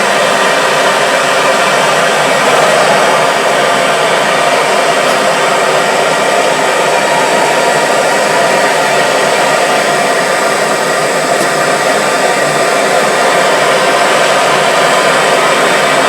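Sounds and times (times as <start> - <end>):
gas torch flame hissing: 0.0 - 16.0.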